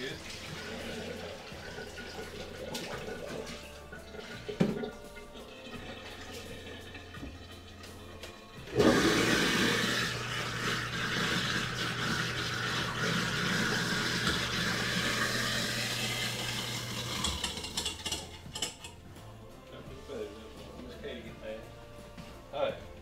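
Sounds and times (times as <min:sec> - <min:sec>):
garbage disposal grinding: 0:00.0 - 0:19.1
tap running: 0:00.3 - 0:19.0.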